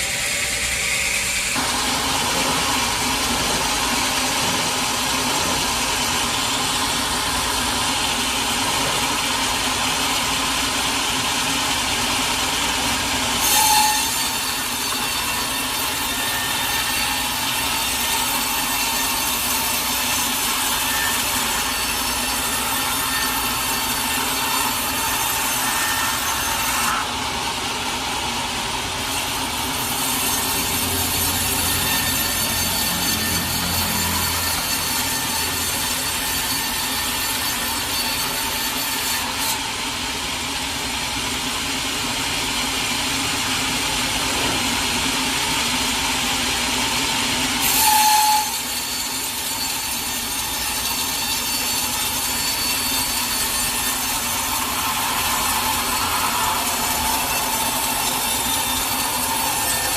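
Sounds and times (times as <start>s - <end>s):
saw cutting through log: 0.0s - 59.9s.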